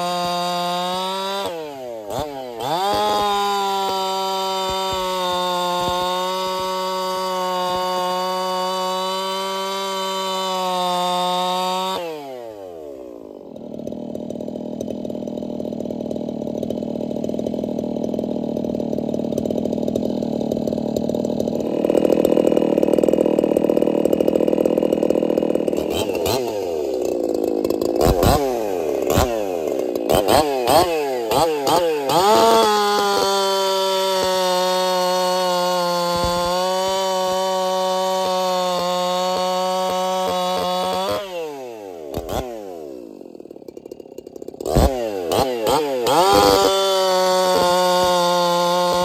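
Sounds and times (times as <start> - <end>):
chainsaw cutting log: 0.0 - 49.0.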